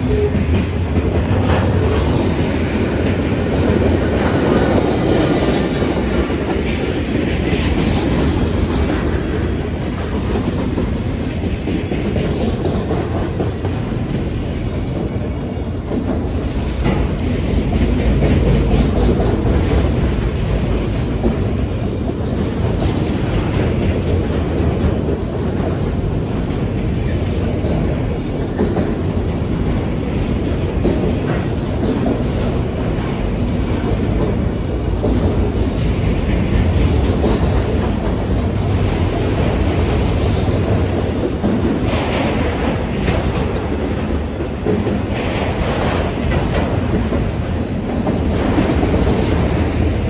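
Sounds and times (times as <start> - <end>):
steel wheels on rails: 0.0 - 50.0.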